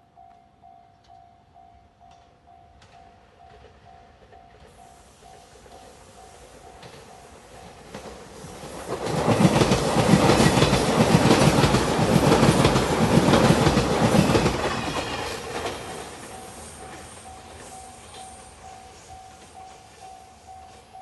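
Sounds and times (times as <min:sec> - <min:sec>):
train rumbling past: 0:01.6 - 0:21.0.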